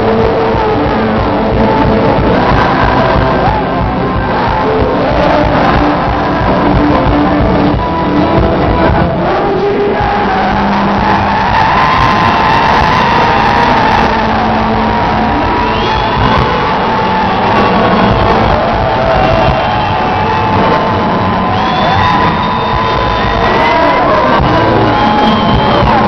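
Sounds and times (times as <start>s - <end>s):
rock band playing with singing: 0.0s - 26.0s.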